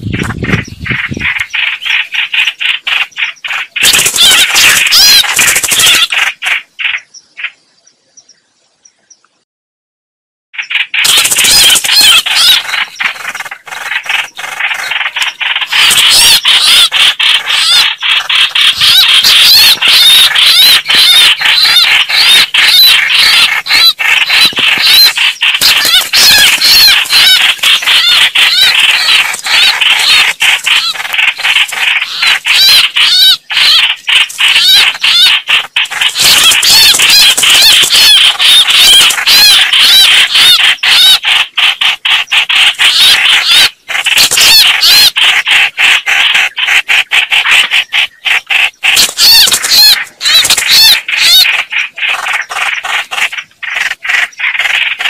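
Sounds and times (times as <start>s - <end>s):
birds calling rapidly: 0.0s - 9.4s, 10.6s - 55.0s.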